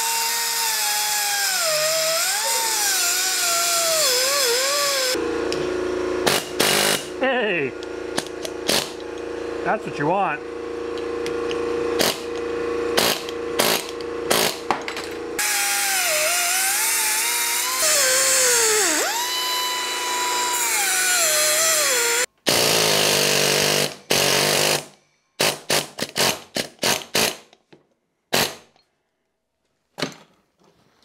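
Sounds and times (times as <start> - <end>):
grinder cutting wheel whine: 0.0 - 24.8.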